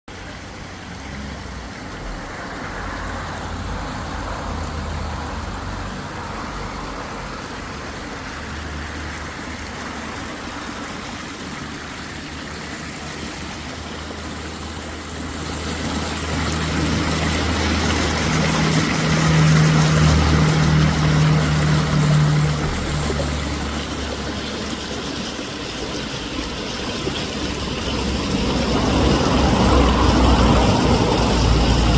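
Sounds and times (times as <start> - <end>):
road traffic hum: 0.1 - 31.9
running water: 0.1 - 31.9.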